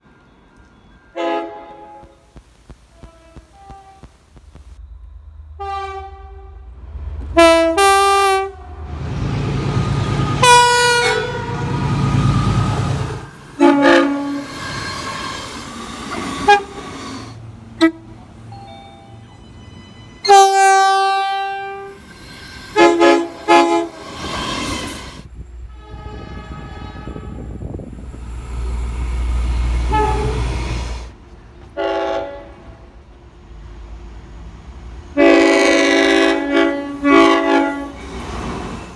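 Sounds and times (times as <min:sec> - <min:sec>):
trains rumbling past: 0:00.0 - 0:38.9
train horns blowing: 0:01.1 - 0:04.8, 0:05.6 - 0:18.2, 0:20.2 - 0:32.9, 0:35.2 - 0:38.5.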